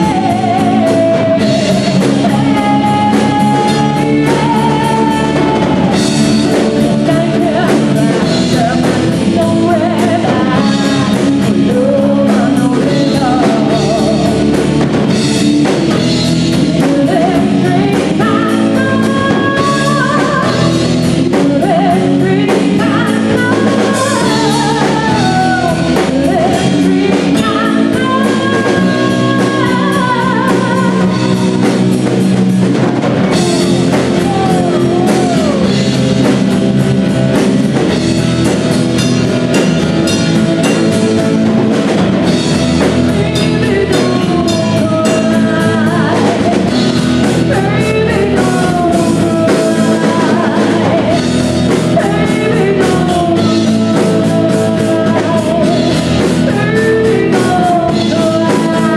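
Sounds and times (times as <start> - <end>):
drum kit: 0.0 - 58.9
guitar: 0.0 - 58.9
person singing: 0.0 - 58.9.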